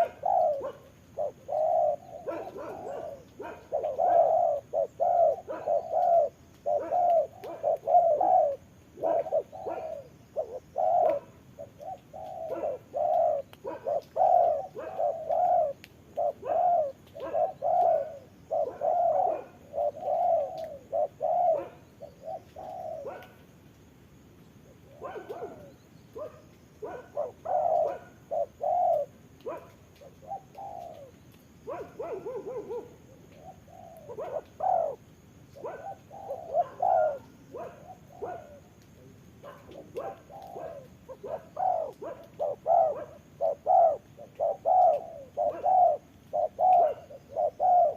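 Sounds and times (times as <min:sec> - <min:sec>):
doves cooing: 0:00.0 - 0:23.5, 0:24.6 - 0:47.9.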